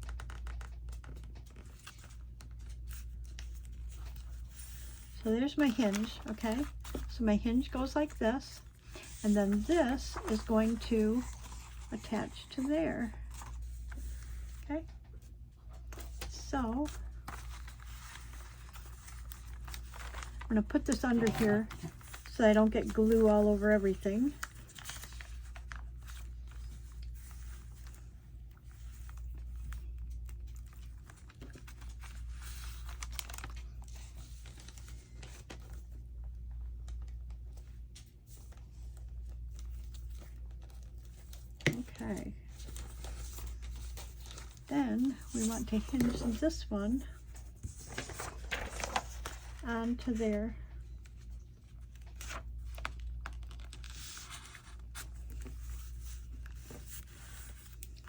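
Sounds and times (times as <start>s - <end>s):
paper rustling: 0.0s - 36.0s, 36.8s - 58.0s
steady low hum: 0.0s - 58.0s.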